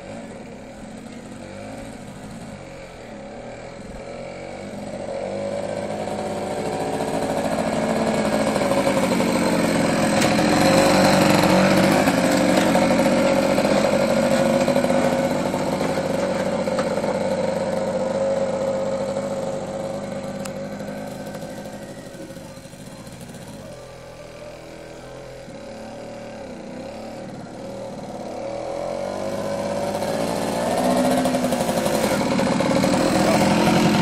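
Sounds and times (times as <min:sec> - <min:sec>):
two-stroke go-kart engine: 0:00.0 - 0:34.0.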